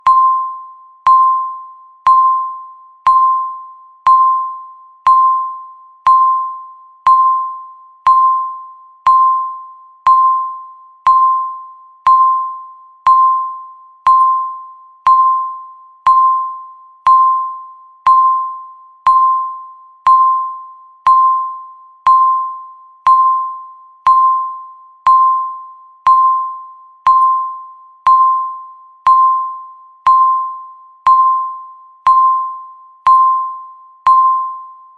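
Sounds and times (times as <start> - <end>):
timer ding: 0.0 - 34.9.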